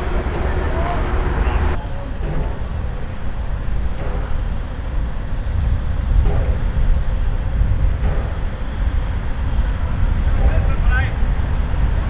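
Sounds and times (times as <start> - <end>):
freight train rumble: 0.0 - 12.0.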